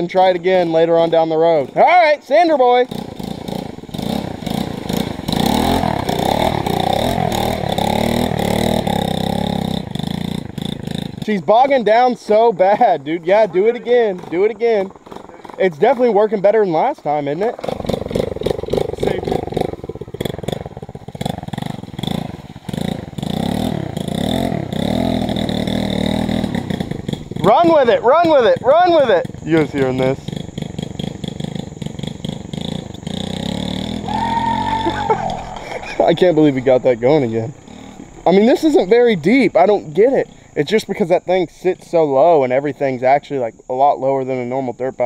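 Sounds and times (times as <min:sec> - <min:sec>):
motorbike engine revving: 0:00.0 - 0:42.6.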